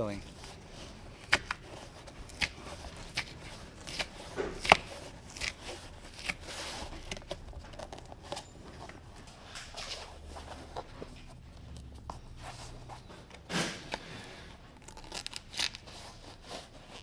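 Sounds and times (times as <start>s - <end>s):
fabric peeling with crackles: 0.0s - 17.0s.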